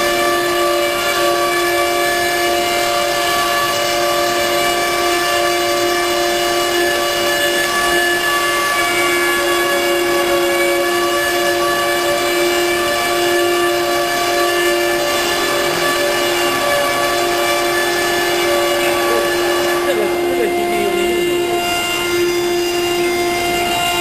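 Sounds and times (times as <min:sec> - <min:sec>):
spindle motor whine: 0:00.0 - 0:24.0.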